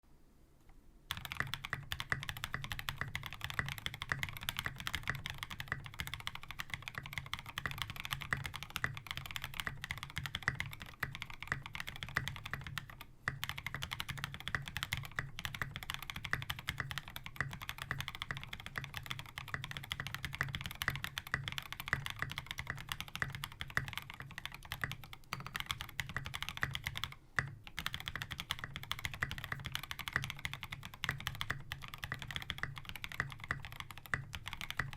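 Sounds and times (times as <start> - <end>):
mechanical keyboard typing: 1.1 - 34.9.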